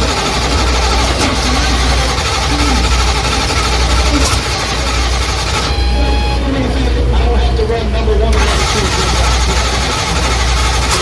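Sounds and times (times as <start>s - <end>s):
car engine rumbling: 0.0s - 11.0s
sharp engine cracks: 0.0s - 11.0s.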